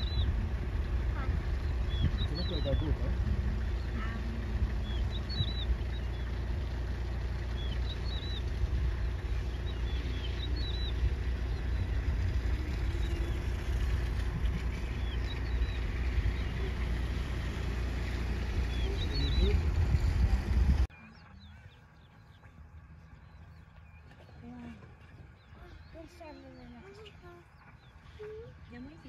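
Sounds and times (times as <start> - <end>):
bird chirping: 0.0 - 29.0
steady low rumble: 0.0 - 29.0.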